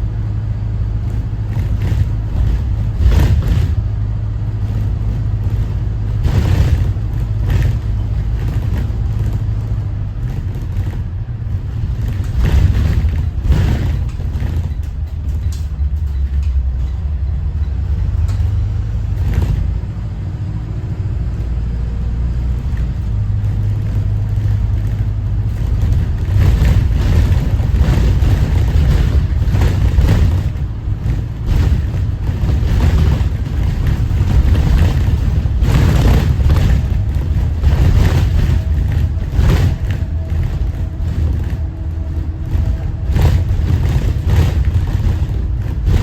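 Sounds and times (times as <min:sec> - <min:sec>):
bus diesel engine droning: 0:00.0 - 0:46.0
bus knocks and rattles: 0:00.0 - 0:46.0.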